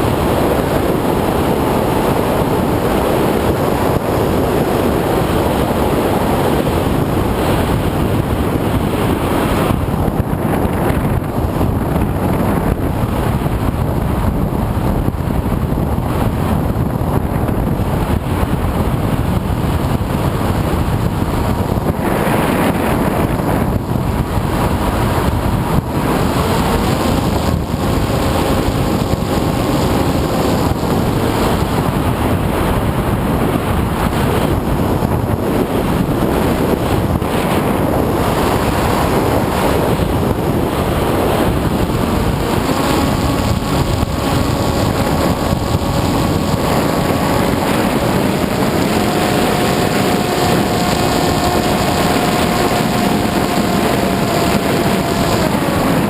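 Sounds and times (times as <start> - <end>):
electric motor whine: 0.0 - 56.0
wind rush: 0.0 - 56.0.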